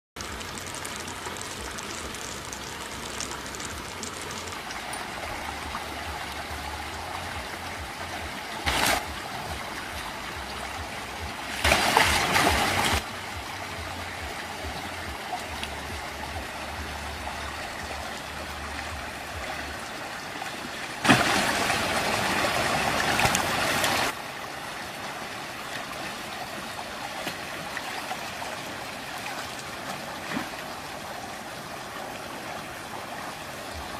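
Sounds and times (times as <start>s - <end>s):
flowing water rushing: 0.2s - 33.9s.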